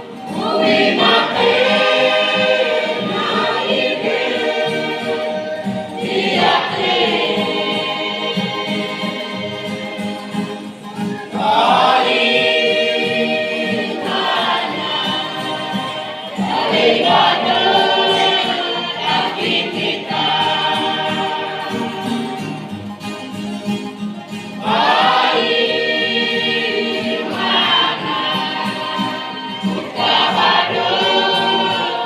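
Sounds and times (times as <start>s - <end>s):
choir singing gospel song: 0.0s - 23.1s, 24.6s - 32.0s.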